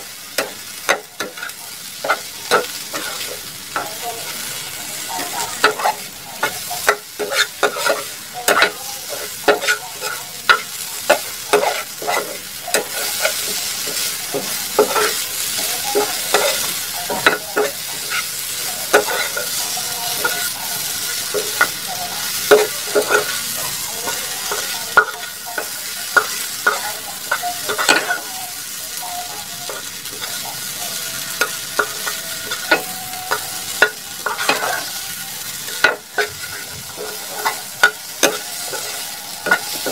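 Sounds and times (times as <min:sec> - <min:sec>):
spatula clinking and scraping pan: 0:00.0 - 0:39.9
vegetables sizzling in frying pan: 0:00.0 - 0:39.9.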